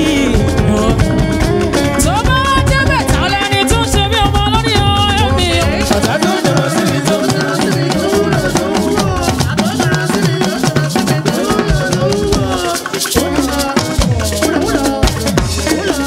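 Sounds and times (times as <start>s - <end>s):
drums playing dance rhythm: 0.0s - 16.0s
talking drums: 0.0s - 16.0s.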